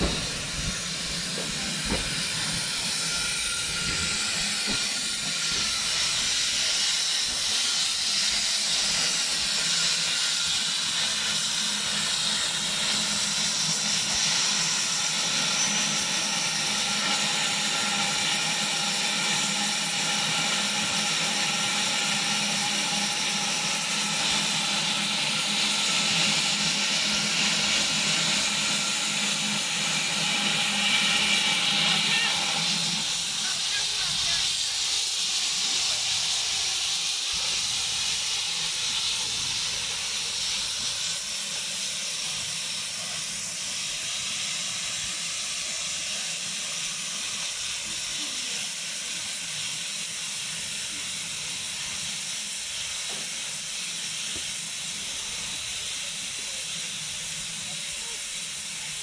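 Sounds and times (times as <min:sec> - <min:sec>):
steam hissing: 0:00.0 - 0:59.0.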